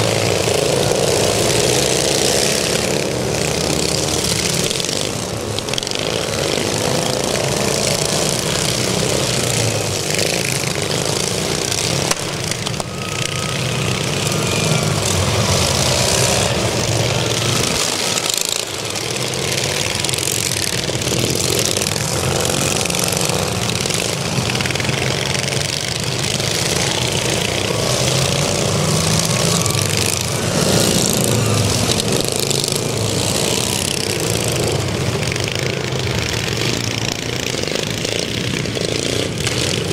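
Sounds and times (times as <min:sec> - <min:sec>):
lawn mower engines racing: 0:00.0 - 0:39.9.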